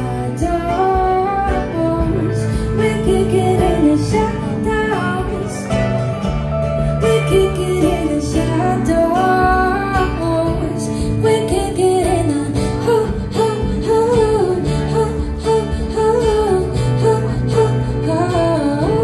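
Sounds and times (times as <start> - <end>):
live pop-rock band: 0.0 - 19.0.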